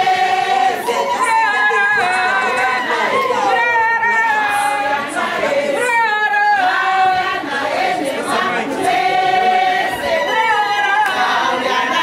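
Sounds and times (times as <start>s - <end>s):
group singing without instruments: 0.0s - 12.0s.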